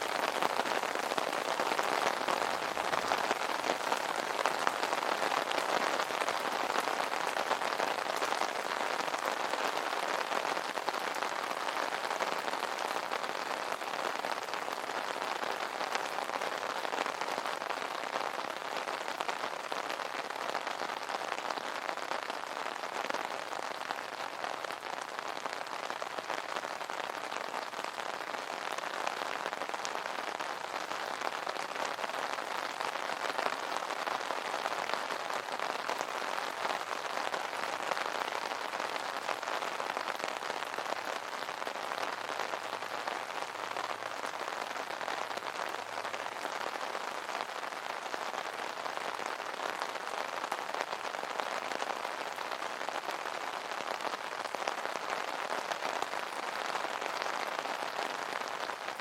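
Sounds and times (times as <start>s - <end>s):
rain drumming on an umbrella: 0.0s - 59.0s.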